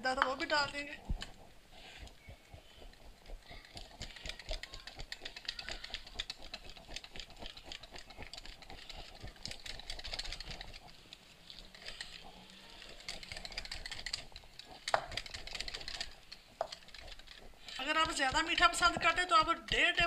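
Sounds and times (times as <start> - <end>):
whisk clicking against glass bowl: 0.0 - 20.0.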